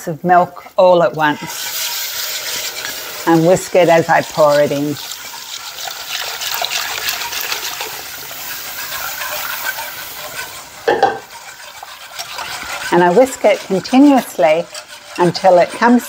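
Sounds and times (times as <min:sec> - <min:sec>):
whisk stirring liquid: 0:00.3 - 0:16.0
milk pouring into a pot: 0:01.4 - 0:15.2.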